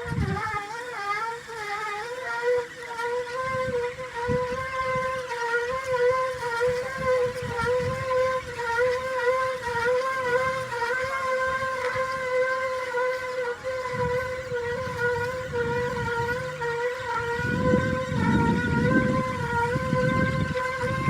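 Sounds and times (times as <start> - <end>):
mechanical drone: 0.0 - 21.0
low rumbling: 3.3 - 21.0.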